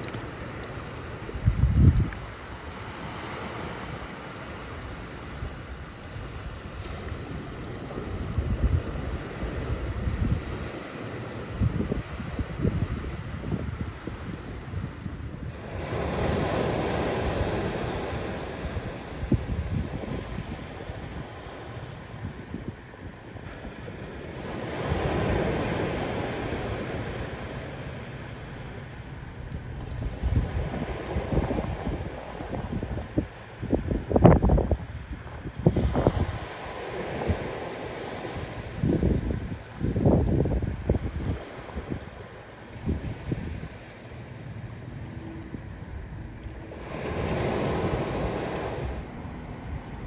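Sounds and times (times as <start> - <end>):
ocean surf: 0.0 - 50.0
wind gusting on microphone: 0.0 - 50.0.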